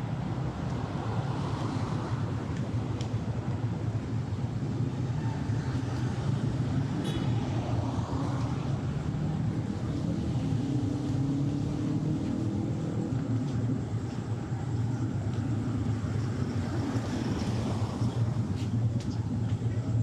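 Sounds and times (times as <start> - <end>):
passing vehicles rumble: 0.0 - 20.0.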